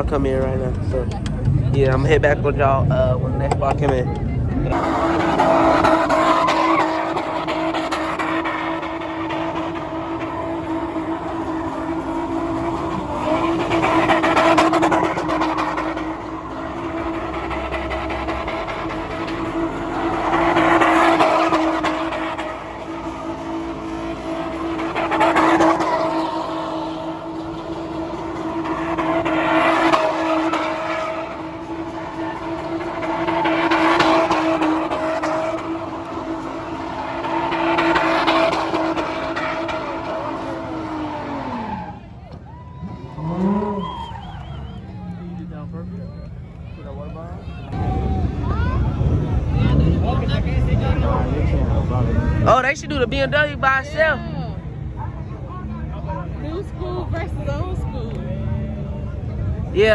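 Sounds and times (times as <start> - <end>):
car engine revving: 0.0 - 59.9
tires squealing: 0.0 - 59.9.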